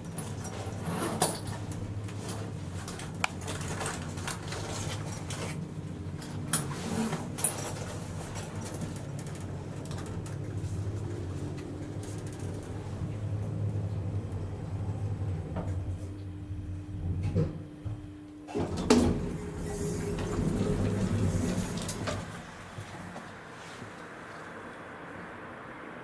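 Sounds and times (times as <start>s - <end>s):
elevator humming: 0.0s - 26.0s.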